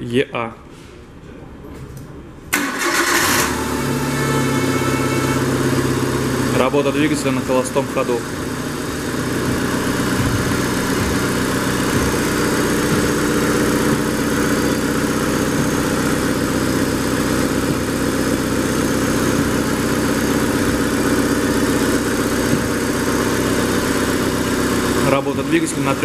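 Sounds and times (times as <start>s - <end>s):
car engine idling: 2.6s - 26.0s.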